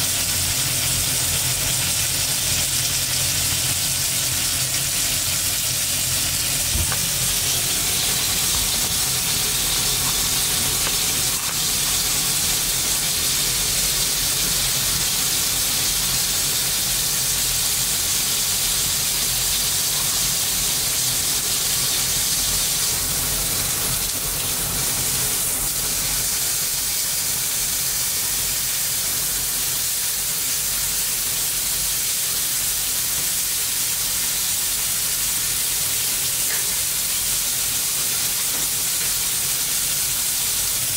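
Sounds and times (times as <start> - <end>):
steak sizzling in a frying pan: 0.0 - 40.9.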